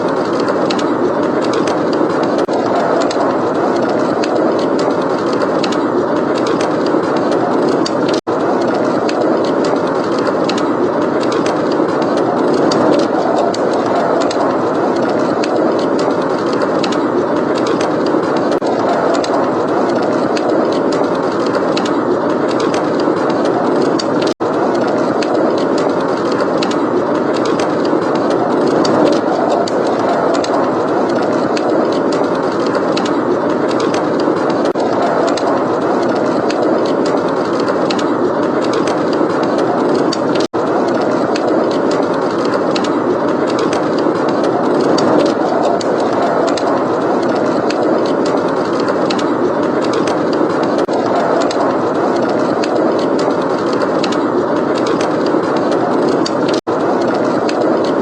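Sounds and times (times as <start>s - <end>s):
blizzard wind: 0.0s - 58.0s
wood fire crackling: 0.0s - 58.0s.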